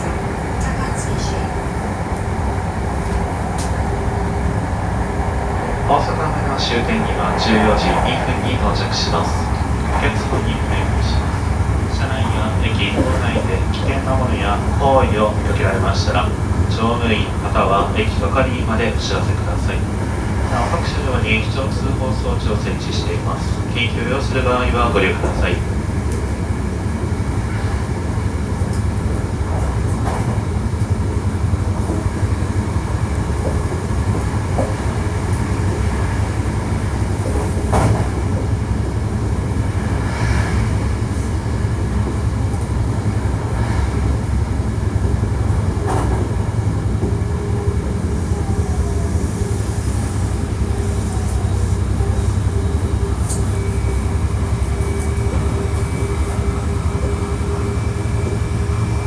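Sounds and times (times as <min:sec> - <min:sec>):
train motor whine: 0:00.0 - 0:59.0
train wheels rumbling on rail: 0:00.0 - 0:59.0.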